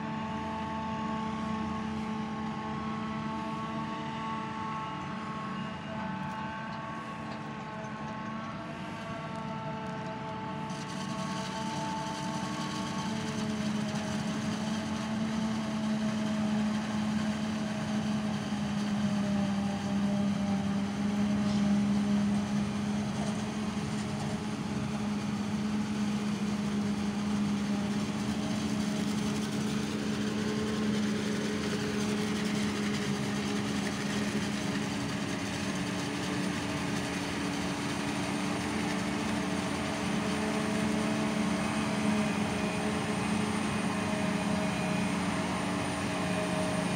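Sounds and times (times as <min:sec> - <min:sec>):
diesel engines droning: 0:00.0 - 0:46.9.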